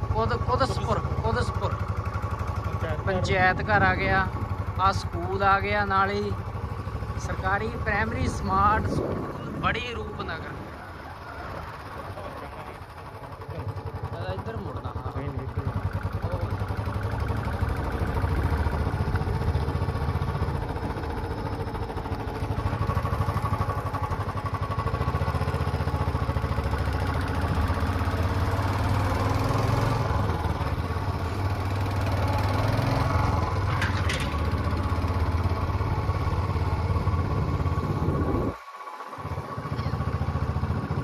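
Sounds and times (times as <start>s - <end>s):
road and wind noise: 0.0s - 41.0s
vehicle engine running: 0.0s - 41.0s.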